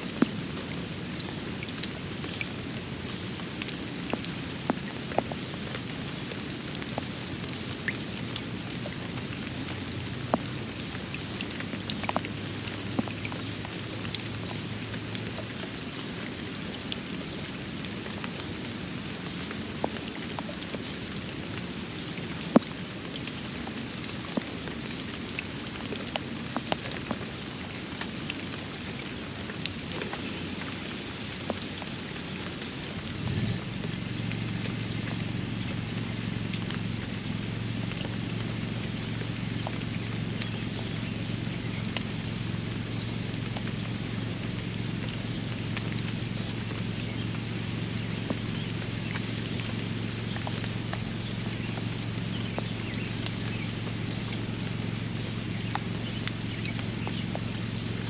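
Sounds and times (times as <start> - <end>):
rain falling on a pond: 0.0 - 58.0
sharp drip clicks: 0.0 - 58.0.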